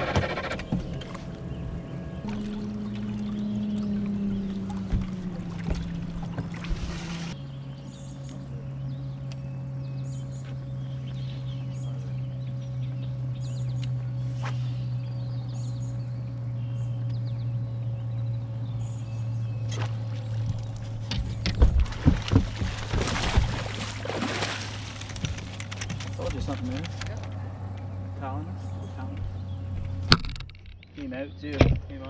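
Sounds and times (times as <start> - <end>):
electric trolling motor humming: 0.0 - 30.9.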